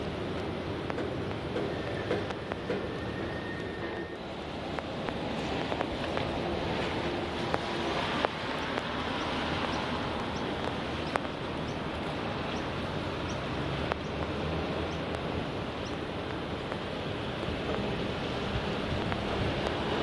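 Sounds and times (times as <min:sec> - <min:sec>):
distant traffic: 0:00.0 - 0:20.0
wind: 0:00.0 - 0:20.0.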